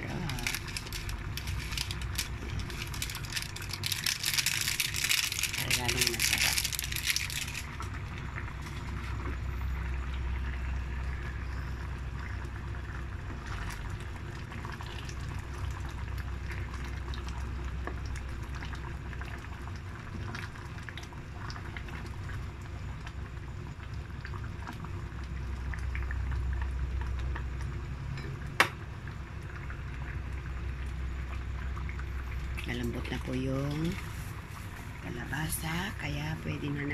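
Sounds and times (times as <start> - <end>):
stew boiling and bubbling: 0.0 - 36.9.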